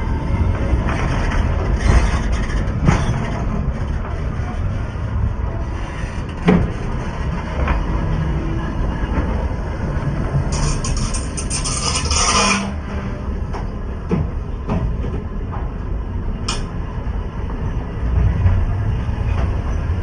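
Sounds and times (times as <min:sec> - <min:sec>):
train rumbling overhead: 0:00.0 - 0:20.0
wheels clanking over rails: 0:00.0 - 0:20.0.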